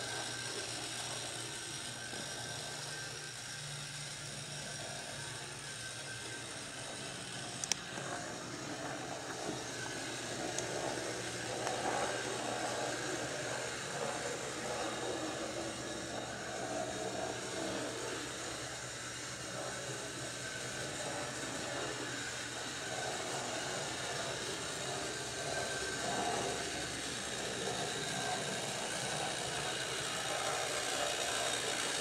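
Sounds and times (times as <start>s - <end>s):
model train motor humming: 0.0s - 32.0s
wheels rolling on rails: 0.0s - 32.0s.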